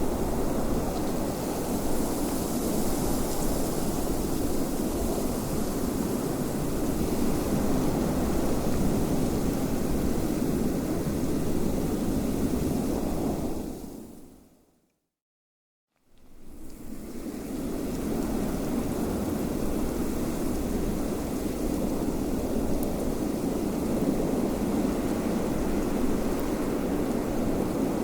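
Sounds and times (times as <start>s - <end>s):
steady wind blowing: 0.0s - 14.2s, 16.4s - 28.0s.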